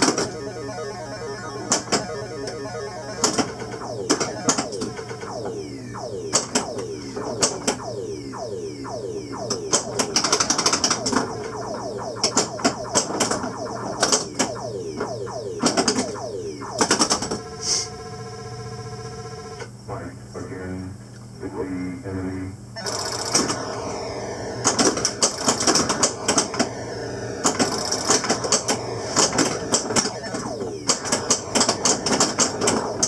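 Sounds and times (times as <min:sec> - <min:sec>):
falling-pitch electronic effects: 0:00.0 - 0:18.8, 0:22.8 - 0:33.0
steady electronic tone chord: 0:00.0 - 0:18.8, 0:23.4 - 0:33.0.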